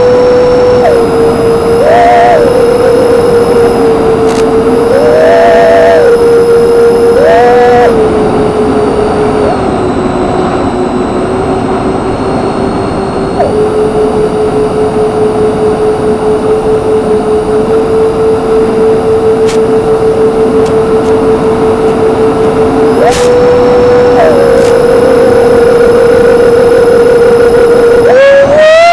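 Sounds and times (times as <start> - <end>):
electric ducted fans whining: 0.0 - 28.9.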